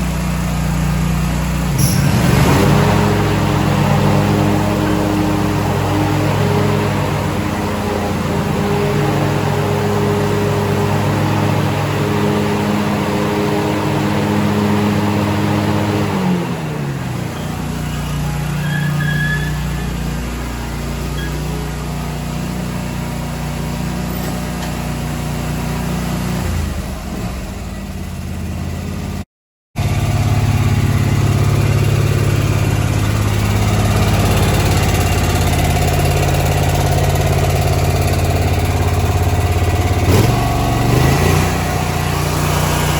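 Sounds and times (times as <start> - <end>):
mower engine running: 0.0 - 29.2, 29.8 - 42.9.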